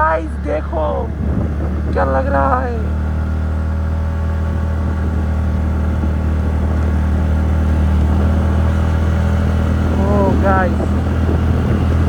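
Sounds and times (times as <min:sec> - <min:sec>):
scooter engine droning: 0:00.0 - 0:12.0.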